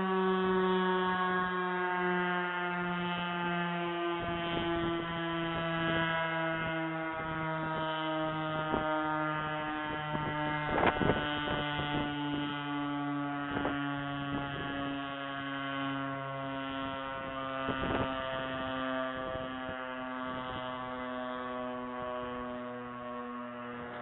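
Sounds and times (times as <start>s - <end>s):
warning siren falling tone: 0.0s - 24.0s.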